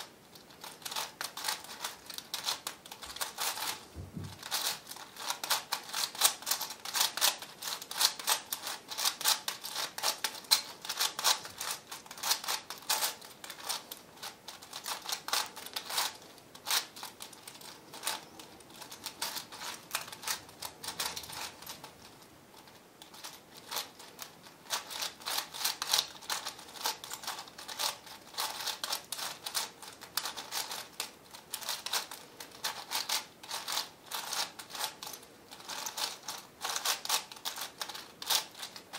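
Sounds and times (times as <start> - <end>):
puzzle cube plastic clicks: 4.4 - 38.9.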